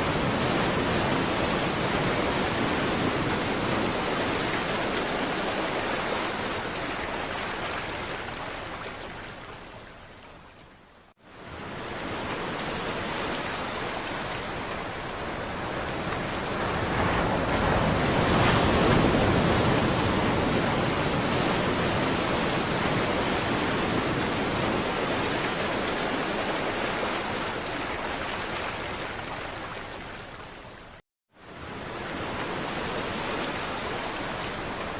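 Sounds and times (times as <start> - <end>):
waves breaking: 0.0 - 10.6, 11.3 - 34.9.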